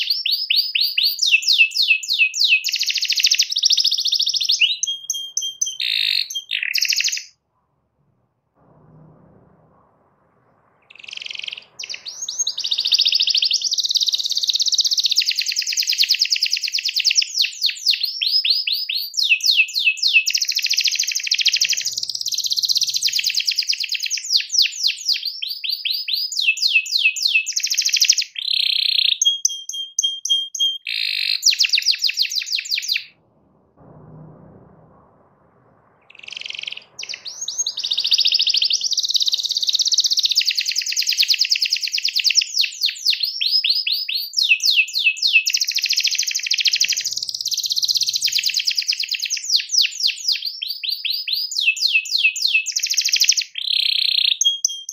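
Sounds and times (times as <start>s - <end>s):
canary singing: 0.0s - 7.4s, 10.6s - 33.2s, 36.1s - 54.9s.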